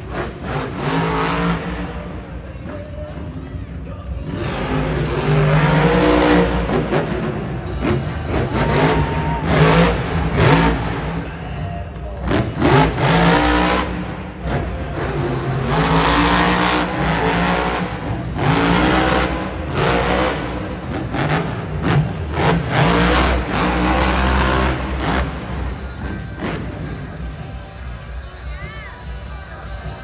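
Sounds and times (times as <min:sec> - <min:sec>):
truck engine revving hard: 0:00.0 - 0:02.2, 0:04.2 - 0:11.4, 0:12.2 - 0:27.2.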